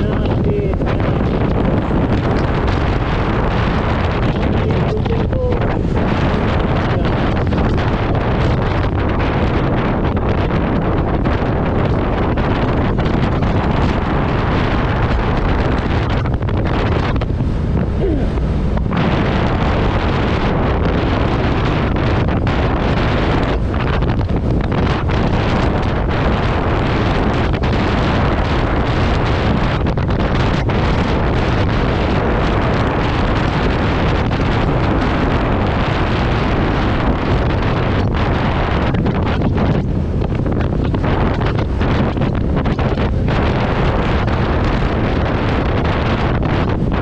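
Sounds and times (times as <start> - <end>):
low rumble: 0.0 - 47.0
wind buffeting microphone: 0.0 - 47.0.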